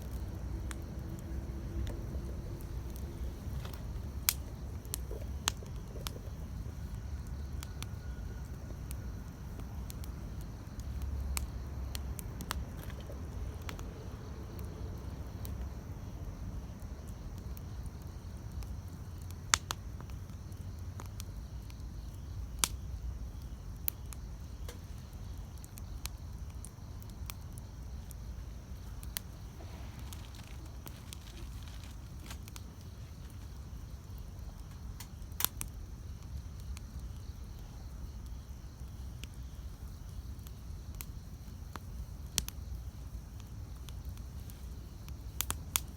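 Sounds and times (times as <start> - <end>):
burning wood crackling and popping: 0.0 - 45.9
campfire flames rumbling: 0.0 - 45.9.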